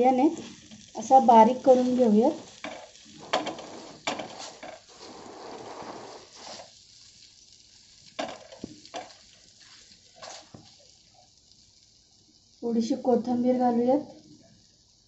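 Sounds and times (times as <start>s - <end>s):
spices sizzling in a pan: 0.0s - 15.0s.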